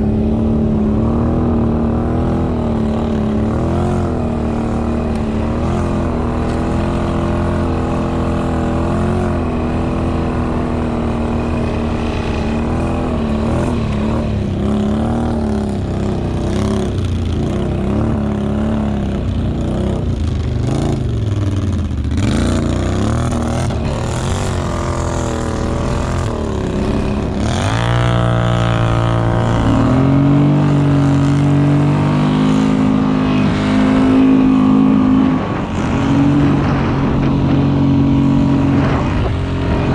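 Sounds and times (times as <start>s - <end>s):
engine revving under load: 0.0s - 39.9s.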